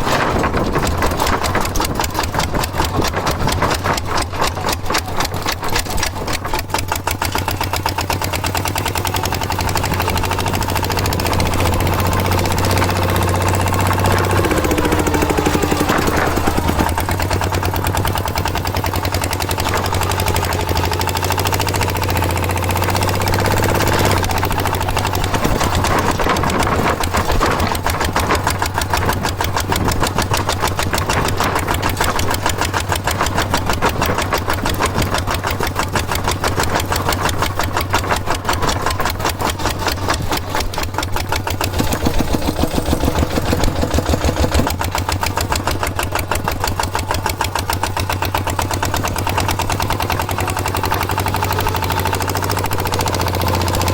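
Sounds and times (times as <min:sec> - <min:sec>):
small engine chugging: 0:00.0 - 0:53.9.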